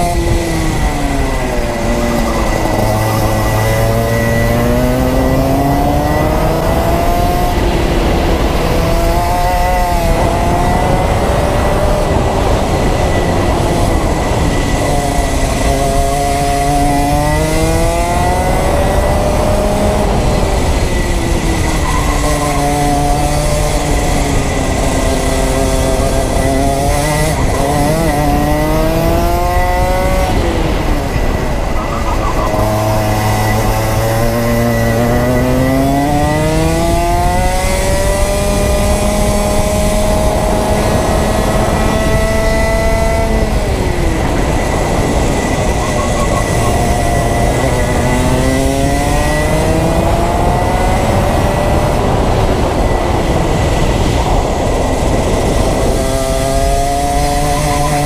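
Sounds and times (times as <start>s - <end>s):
kart engine revving: 0.0s - 58.0s
steady rush of noise: 0.0s - 58.0s.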